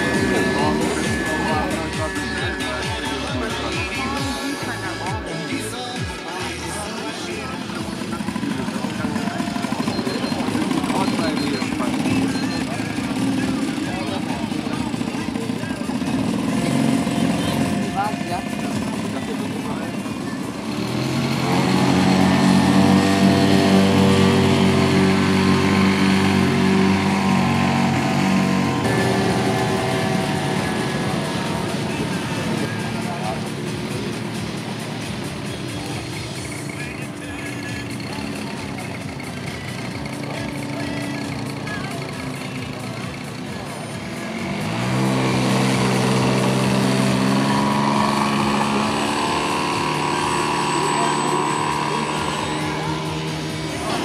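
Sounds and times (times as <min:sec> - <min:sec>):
model plane engine running: 0:00.0 - 0:05.1, 0:07.1 - 0:54.0.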